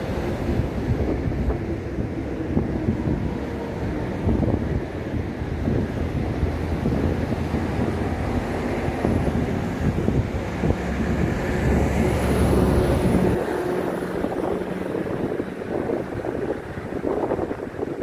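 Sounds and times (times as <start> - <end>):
engine drone: 0.0 - 18.0
wind buffeting microphone: 0.0 - 18.0.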